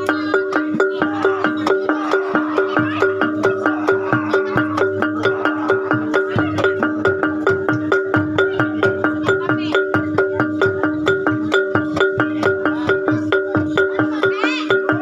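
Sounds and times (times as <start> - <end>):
low drum beat: 0.0 - 15.0
metal mallet instruments melody: 0.0 - 15.0.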